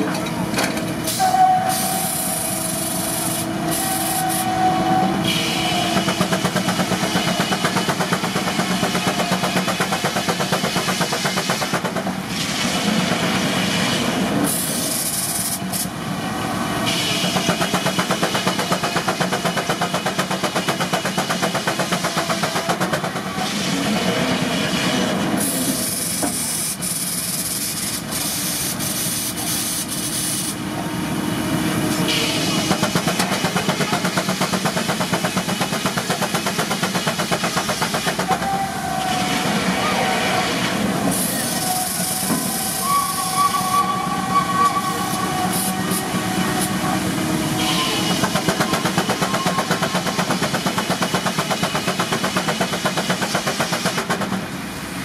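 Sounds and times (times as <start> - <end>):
steam engine exhaust beats: 0.8 - 55.0
long steam hisses: 1.0 - 30.8, 31.6 - 55.0.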